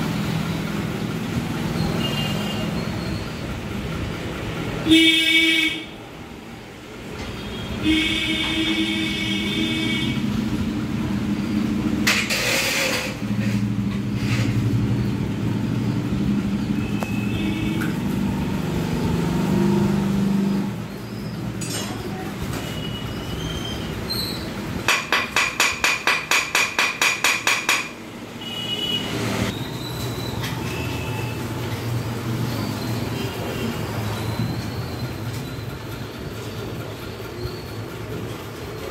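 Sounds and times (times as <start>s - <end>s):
vehicle engines running: 0.0s - 38.9s.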